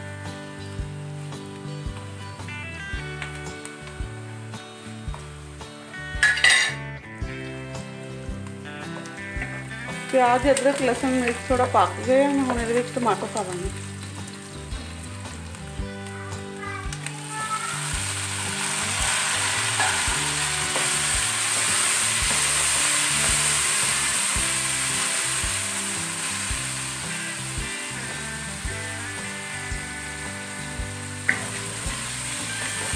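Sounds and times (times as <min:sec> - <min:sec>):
onions and tomatoes frying in oil: 0:00.0 - 0:32.9.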